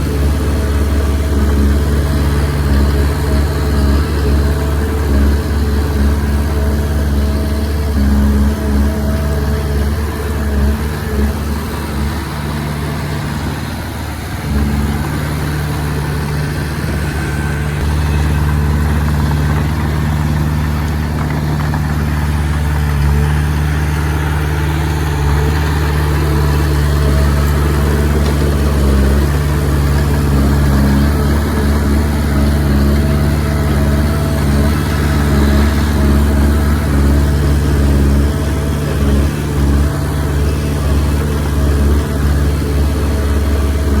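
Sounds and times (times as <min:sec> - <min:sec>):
bulldozer diesel engine running: 0:00.0 - 0:44.0.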